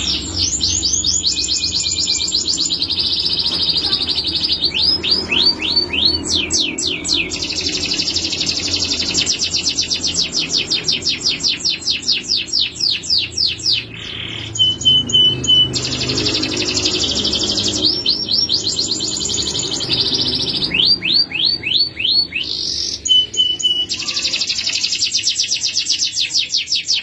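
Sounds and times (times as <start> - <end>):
canary singing trills: 0.0 - 27.0.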